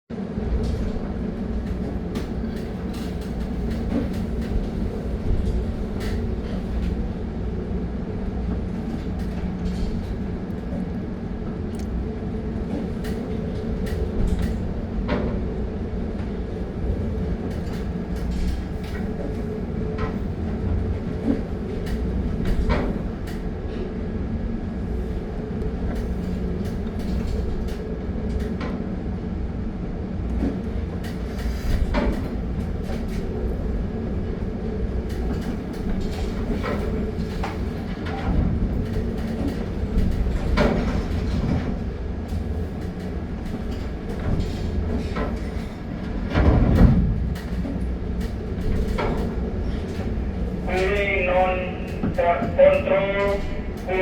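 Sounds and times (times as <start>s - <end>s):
ship engine rumble and hum: 0.1s - 54.0s.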